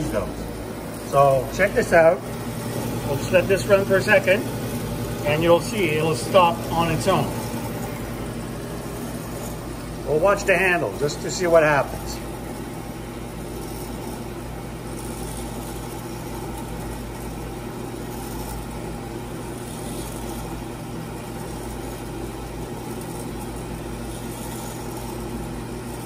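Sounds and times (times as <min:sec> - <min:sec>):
motor and gear hum: 0:00.0 - 0:26.0.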